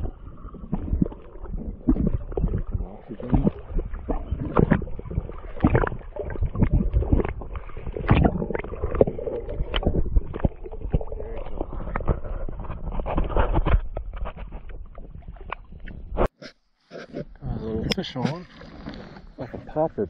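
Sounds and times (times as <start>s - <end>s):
muffled underwater water sloshing: 0.0s - 20.0s.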